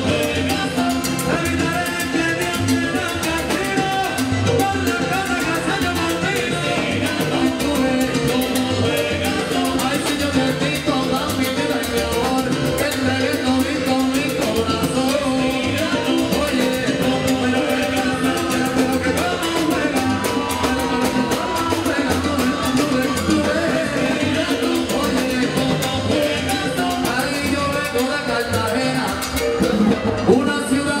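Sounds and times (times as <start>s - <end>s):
congas: 0.0s - 31.0s
drum kit: 0.0s - 31.0s
live salsa band: 0.0s - 31.0s.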